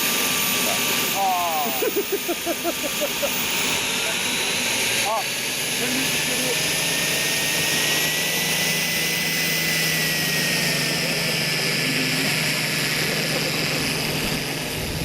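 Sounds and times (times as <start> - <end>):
model turboprop engine whining: 0.0 - 15.0.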